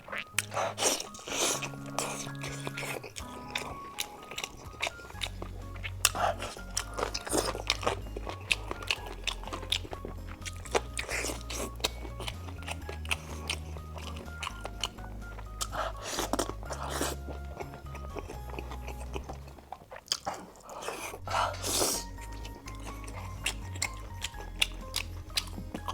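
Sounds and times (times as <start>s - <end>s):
crunchy biting and chewing: 0.0s - 25.9s
background music with bass line: 0.4s - 19.6s, 21.2s - 25.9s.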